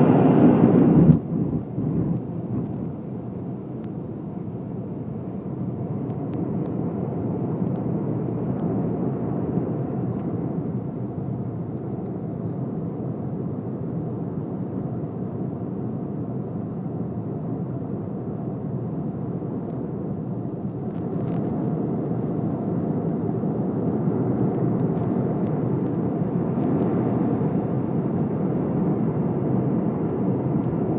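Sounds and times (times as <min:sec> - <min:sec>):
airplane cabin noise: 0:00.0 - 0:30.9.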